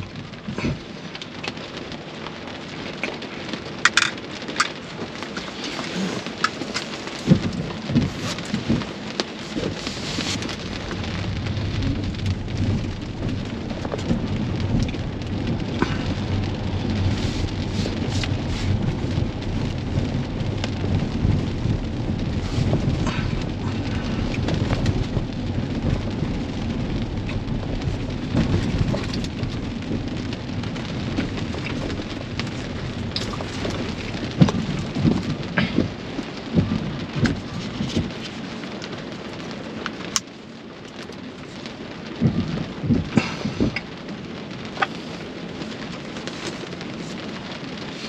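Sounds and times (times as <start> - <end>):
rain pattering on car roof: 0.0 - 48.0
tyres rumbling on wet road: 0.0 - 48.0.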